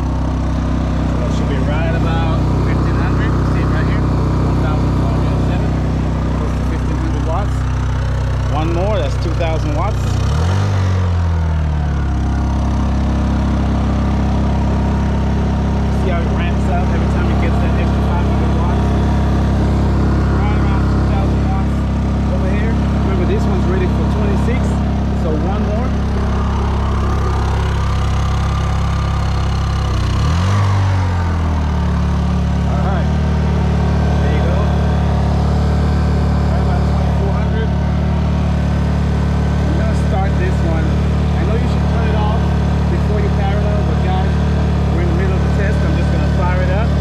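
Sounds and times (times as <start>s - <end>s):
generator engine running: 0.0s - 47.0s.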